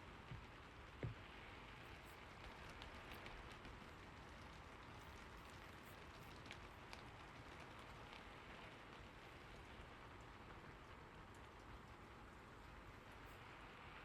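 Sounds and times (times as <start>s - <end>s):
faint steady rain: 0.0s - 14.0s.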